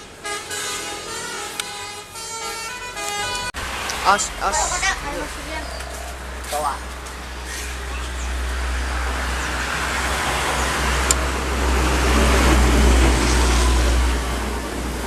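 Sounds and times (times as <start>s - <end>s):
passing vehicle engine and tyres: 0.0s - 15.0s.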